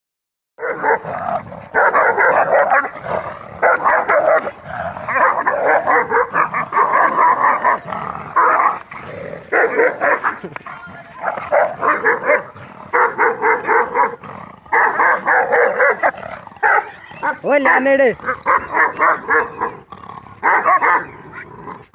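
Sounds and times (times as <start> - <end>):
dog barking: 0.6 - 7.8, 8.4 - 8.8, 9.5 - 19.8, 20.4 - 21.4.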